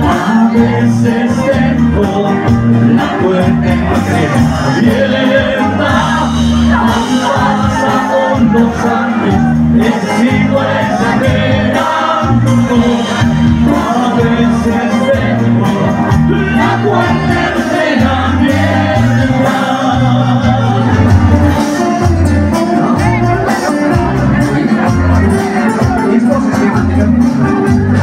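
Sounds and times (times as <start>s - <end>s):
bass line: 0.0s - 28.0s
live band music: 0.0s - 28.0s.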